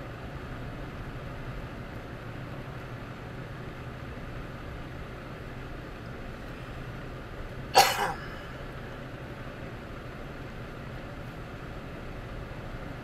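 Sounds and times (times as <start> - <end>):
engine hum inside vehicle: 0.0 - 13.0.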